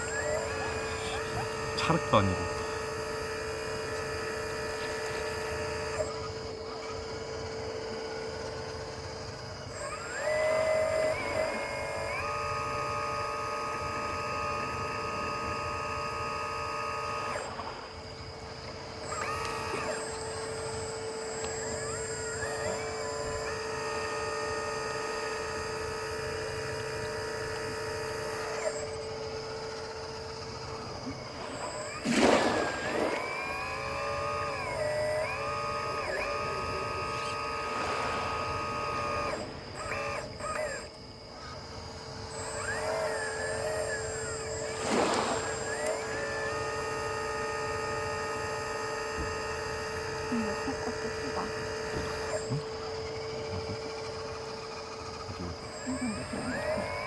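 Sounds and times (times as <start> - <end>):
hydraulic pump whining: 0.0 - 57.0.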